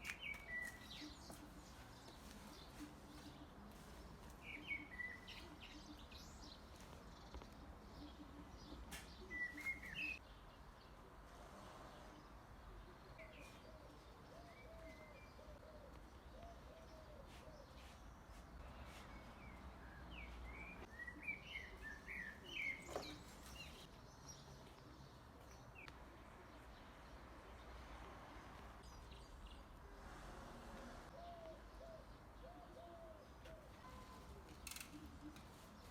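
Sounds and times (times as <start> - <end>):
faint birdsong: 0.0 - 35.9.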